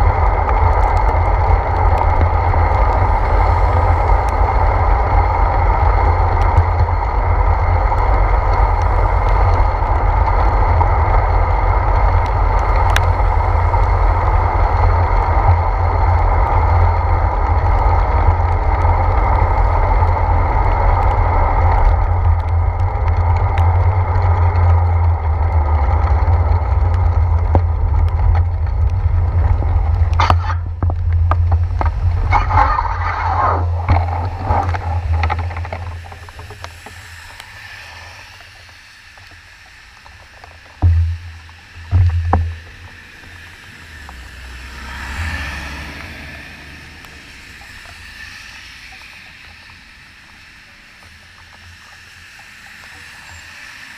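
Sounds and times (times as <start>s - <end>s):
bicycle clicks: 0.0s - 46.2s
tyre noise on wet pavement: 0.0s - 53.9s
wind buffeting: 0.0s - 53.9s.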